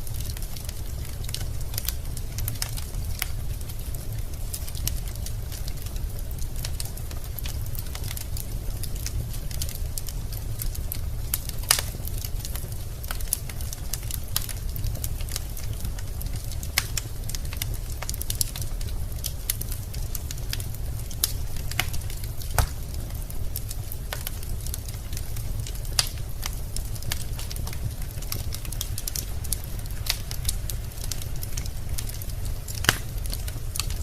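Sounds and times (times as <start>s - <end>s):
logs crackling and popping: 0.0s - 34.0s
low rumble of flames: 0.0s - 34.0s.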